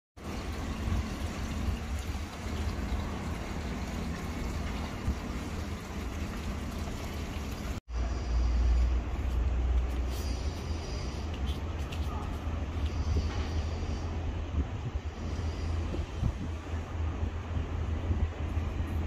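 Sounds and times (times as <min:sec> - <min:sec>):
outdoor background noise: 0:00.2 - 0:19.0.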